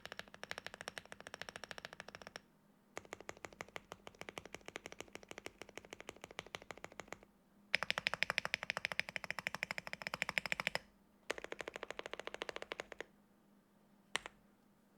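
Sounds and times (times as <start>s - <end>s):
fast typing on mechanical keyboard: 0.0s - 2.4s, 3.0s - 7.2s, 7.8s - 13.1s.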